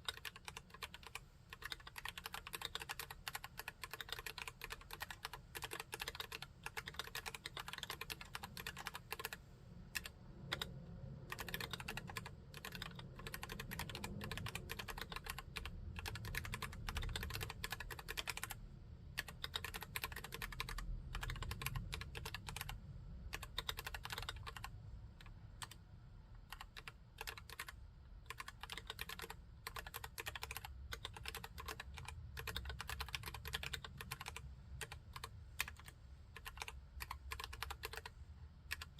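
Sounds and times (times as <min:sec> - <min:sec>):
mechanical keyboard typing: 0:00.0 - 0:25.8, 0:26.4 - 0:38.9.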